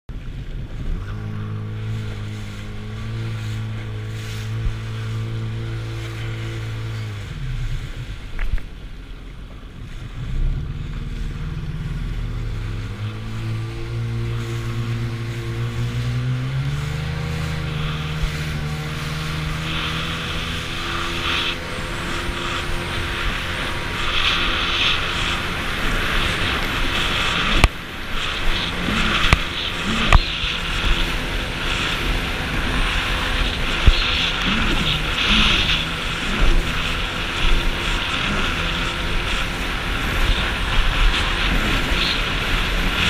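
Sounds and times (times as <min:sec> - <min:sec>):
wind: 0:00.0 - 0:43.0
jet ski engine: 0:00.1 - 0:43.0
water spray rushing: 0:00.8 - 0:08.9, 0:10.0 - 0:43.0.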